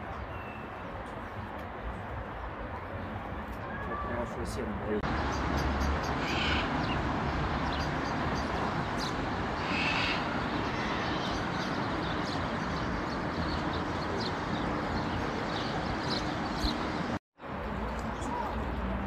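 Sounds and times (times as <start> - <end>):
outdoor background rumble with hiss: 1.7 - 19.0.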